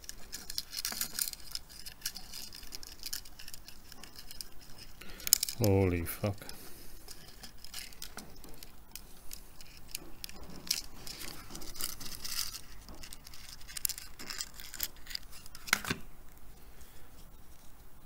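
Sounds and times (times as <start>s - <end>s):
small parts clicking and rattling: 0.0s - 16.4s.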